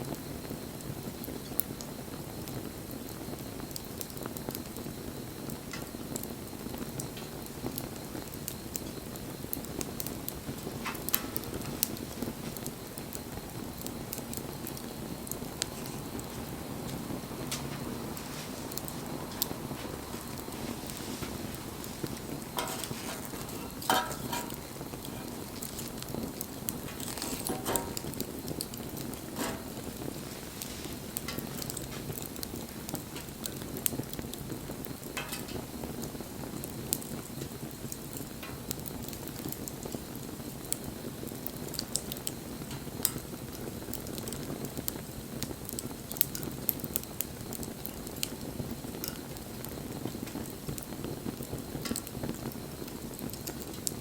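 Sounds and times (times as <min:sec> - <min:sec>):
fire pops: 0:00.0 - 0:54.0
wood fire crackling: 0:00.0 - 0:54.0.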